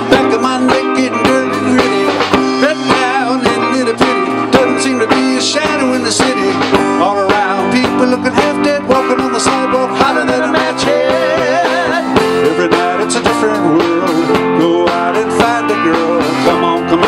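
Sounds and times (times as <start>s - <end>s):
drum kit beat: 0.0s - 17.0s
electric guitars: 0.0s - 17.0s.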